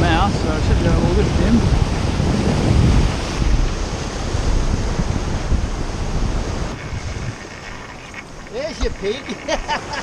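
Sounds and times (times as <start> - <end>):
ocean surf against rocks: 0.0 - 10.0
wind buffeting microphone: 0.0 - 10.0.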